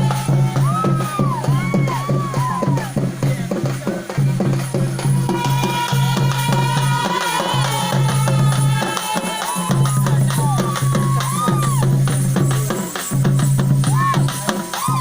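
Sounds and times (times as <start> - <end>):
folk music with drums: 0.0 - 15.0.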